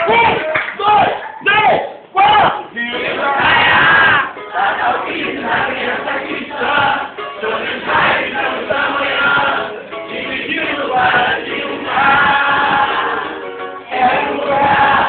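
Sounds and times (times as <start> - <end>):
musical backing: 2.0 - 15.0
group singing together: 2.7 - 15.0.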